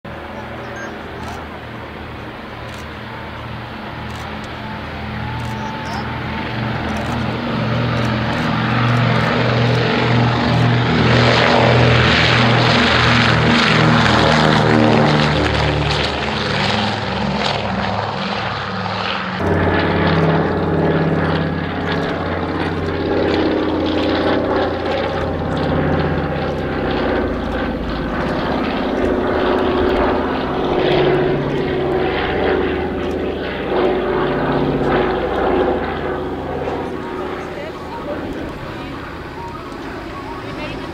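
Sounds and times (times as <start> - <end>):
aircraft propeller engines droning: 0.1 - 40.9.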